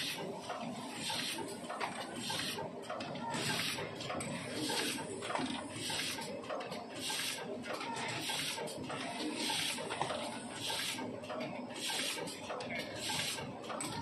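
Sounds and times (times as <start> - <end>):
steady machine noise: 0.0 - 14.0.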